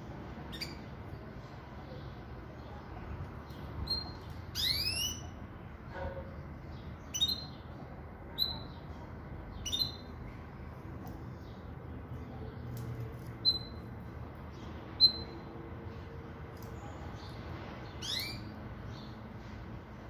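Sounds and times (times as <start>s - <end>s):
bird chirping: 0.5s - 2.9s, 3.5s - 10.4s, 11.0s - 19.3s.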